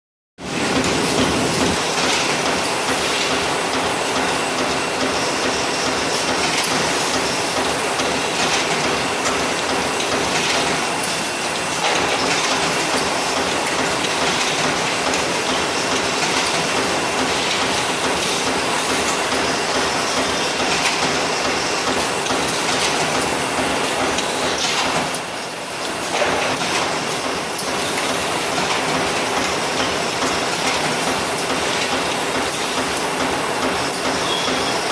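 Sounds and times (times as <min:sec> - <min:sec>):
machine mechanical clatter: 0:00.5 - 0:34.9.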